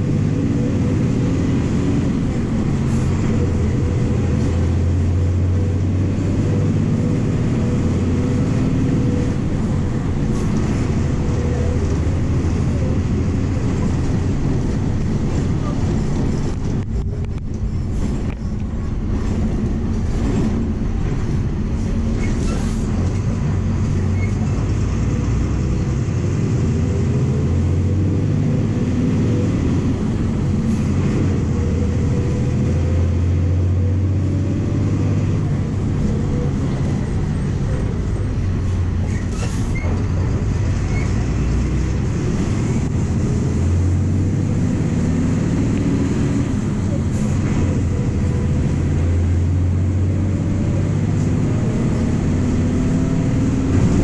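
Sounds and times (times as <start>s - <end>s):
diesel bus engine running: 0.0s - 54.0s
road noise: 0.0s - 54.0s.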